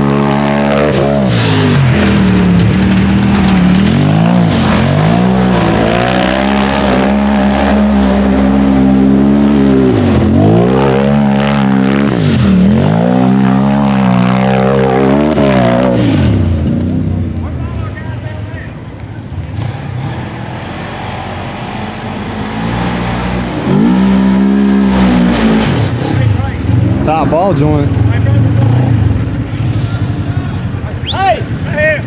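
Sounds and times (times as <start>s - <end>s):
buggy engine revving hard: 0.0s - 17.3s, 19.4s - 30.7s.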